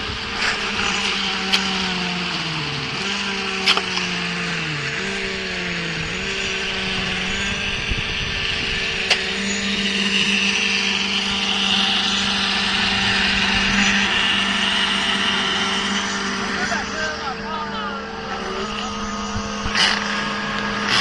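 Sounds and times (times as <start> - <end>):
concrete mixer pump droning: 0.0 - 21.0.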